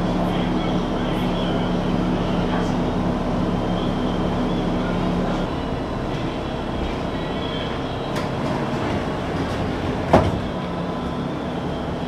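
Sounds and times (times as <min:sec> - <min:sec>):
low hum: 0:00.0 - 0:12.0
tram running rumble and hiss: 0:00.0 - 0:12.0.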